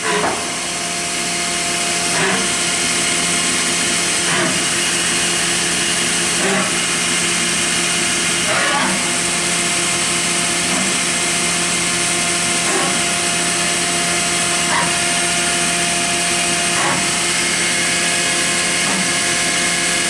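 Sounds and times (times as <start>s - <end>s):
machine whine and hiss: 0.0s - 20.0s.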